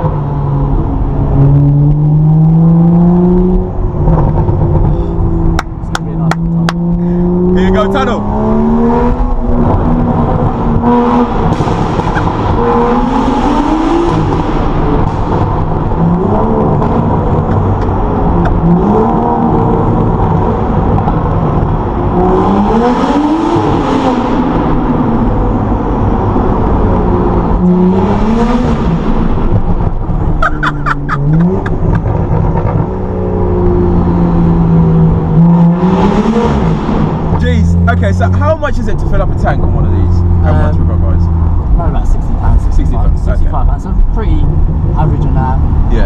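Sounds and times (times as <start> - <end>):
car engine revving hard: 6.2 - 43.3.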